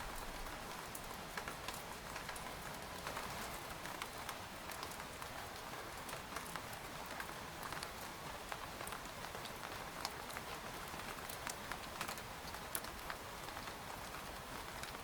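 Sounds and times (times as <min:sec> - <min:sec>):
rain on a tent: 0:00.0 - 0:15.0.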